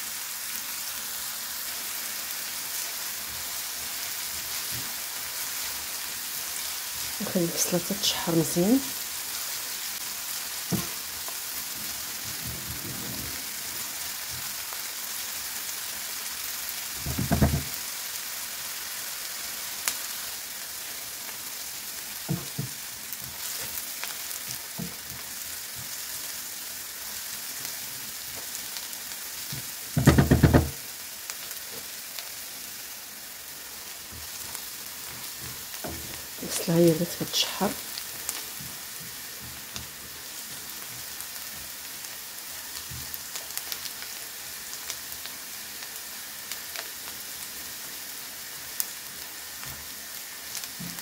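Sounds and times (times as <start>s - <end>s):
onion sizzling in hot oil: 0.0s - 51.0s.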